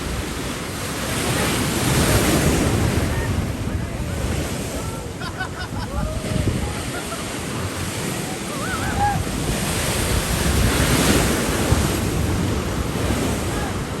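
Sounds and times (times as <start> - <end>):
ocean surf washing ashore: 0.0 - 14.0
wind buffeting microphone: 0.0 - 14.0.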